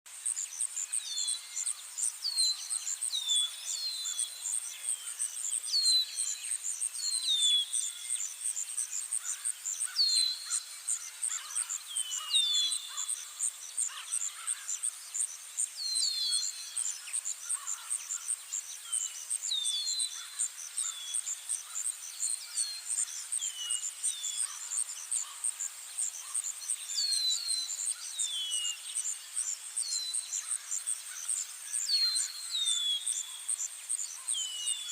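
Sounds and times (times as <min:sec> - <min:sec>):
crickets chirring: 0:06.3 - 0:34.9.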